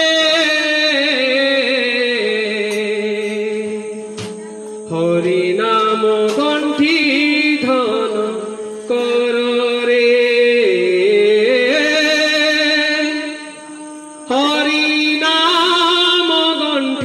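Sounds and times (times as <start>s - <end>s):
men singing devotional song: 0.0s - 13.6s, 14.2s - 17.0s.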